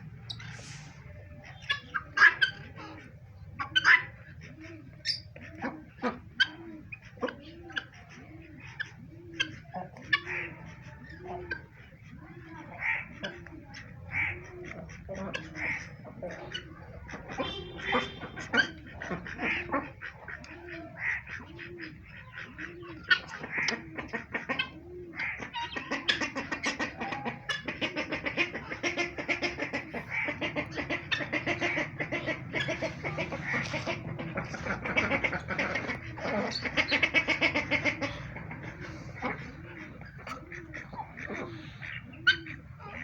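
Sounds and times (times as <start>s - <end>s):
poultry calling: 0.0s - 43.0s.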